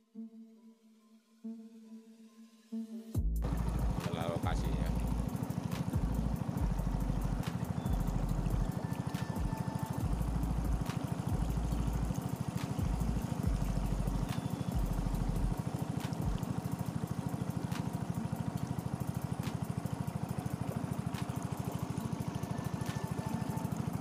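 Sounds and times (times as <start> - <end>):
small boat engine running: 3.1 - 24.0.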